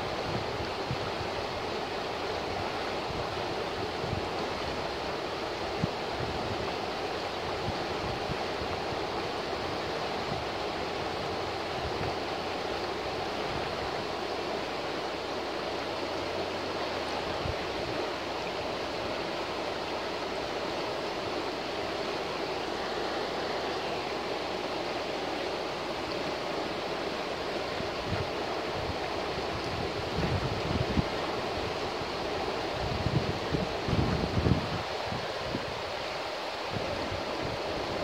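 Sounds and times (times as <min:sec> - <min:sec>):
river rushing over rocks: 0:00.0 - 0:38.0.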